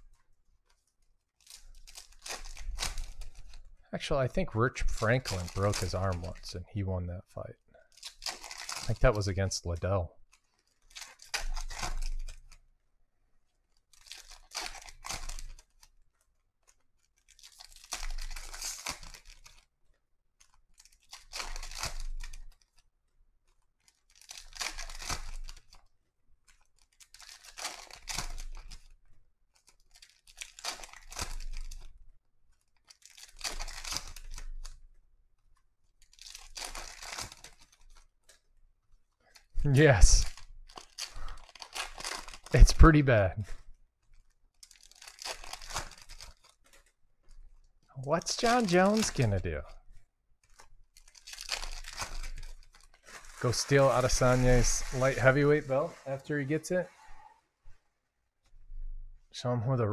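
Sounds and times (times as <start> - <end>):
foil wrappers tearing and crinkling: 0.0 - 3.8, 4.7 - 6.5, 7.9 - 12.6, 13.7 - 15.9, 16.6 - 19.7, 20.4 - 22.8, 23.5 - 34.9, 35.8 - 38.5, 39.2 - 43.0, 44.0 - 49.6, 50.4 - 57.2.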